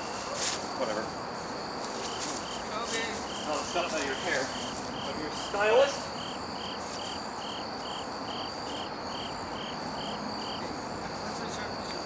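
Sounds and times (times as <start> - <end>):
continuous insect trill: 0.0 - 12.0
cricket chirping: 0.0 - 12.0.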